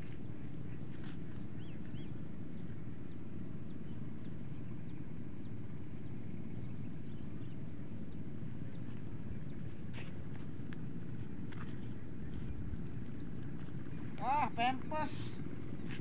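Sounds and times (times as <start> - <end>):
birds chirping: 0.0 - 16.0
low outdoor rumble: 0.0 - 16.0.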